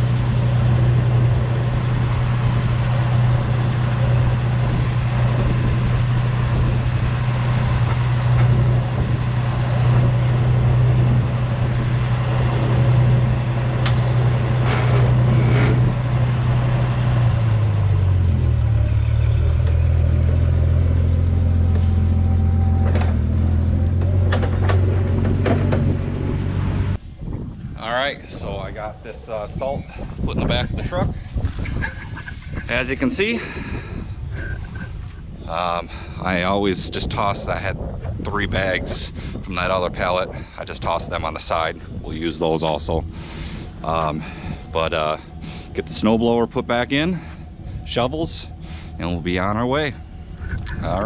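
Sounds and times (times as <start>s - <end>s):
vehicle engine running: 0.0s - 27.0s, 31.4s - 51.0s.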